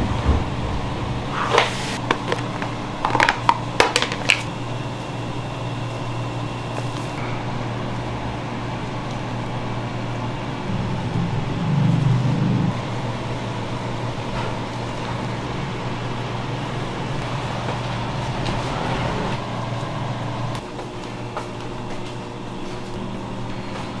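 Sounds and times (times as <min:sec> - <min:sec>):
kitchen machinery humming: 0:00.0 - 0:24.0.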